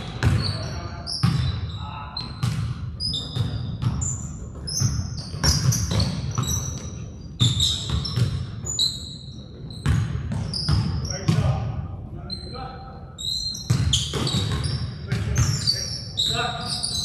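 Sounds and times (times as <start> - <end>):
sneaker squeaks: 0.0 - 11.6, 12.2 - 17.0
basketball bouncing on gym floor: 0.0 - 11.7, 13.5 - 15.8.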